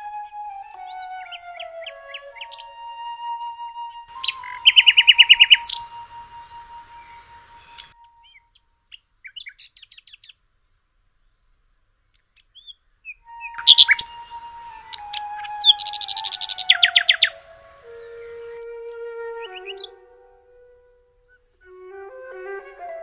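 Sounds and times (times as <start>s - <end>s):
nightingale singing: 0.0s - 10.4s, 12.2s - 23.0s.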